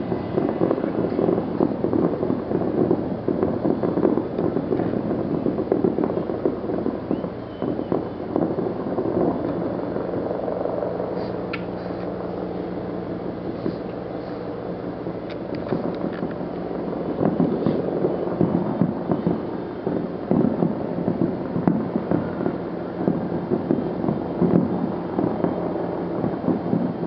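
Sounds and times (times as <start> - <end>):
distant fireworks bangs and crackles: 0.0 - 27.0.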